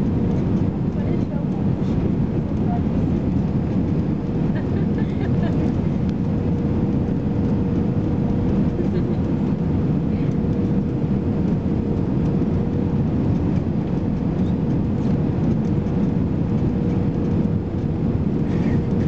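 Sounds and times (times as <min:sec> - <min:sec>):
aircraft cabin low roar: 0:00.0 - 0:19.0.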